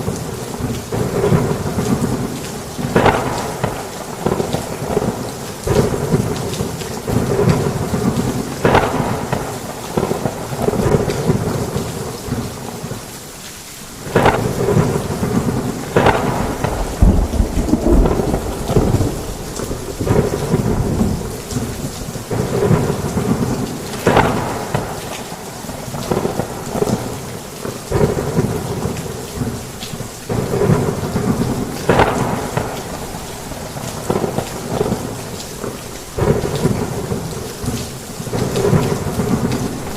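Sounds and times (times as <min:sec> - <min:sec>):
thunder rumbles and cracks: 0:00.0 - 0:12.6, 0:14.0 - 0:39.9
heavy rain on a roof: 0:00.0 - 0:39.9.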